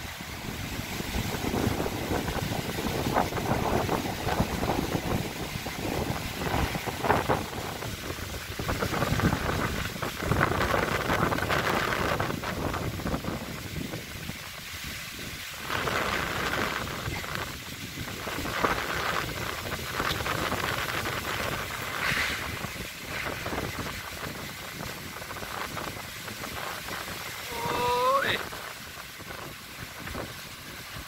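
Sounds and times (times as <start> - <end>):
wind buffeting microphone: 0.0 - 31.0
wind tossing trees and leaves: 0.0 - 31.0.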